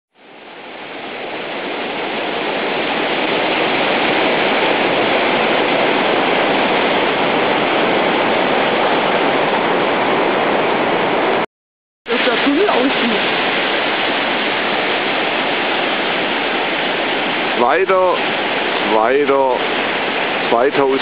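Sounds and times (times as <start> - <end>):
river floodwater rushing: 0.2 - 11.4, 12.1 - 21.0.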